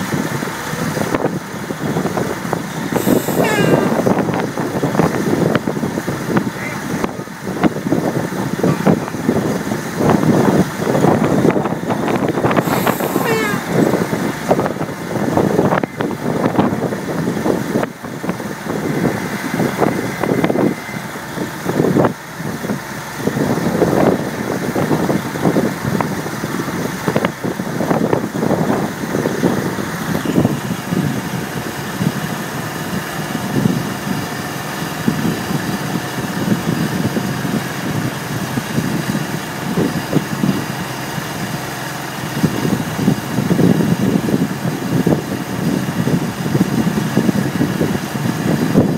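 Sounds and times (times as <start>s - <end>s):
large engine idling: 0.0s - 48.9s.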